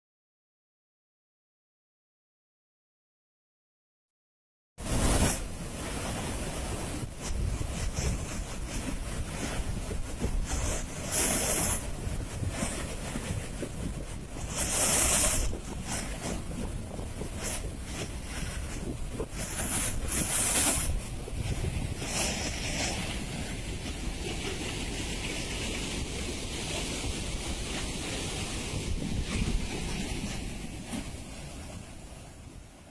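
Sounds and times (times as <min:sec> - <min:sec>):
rushing water roar: 0:04.8 - 0:32.9.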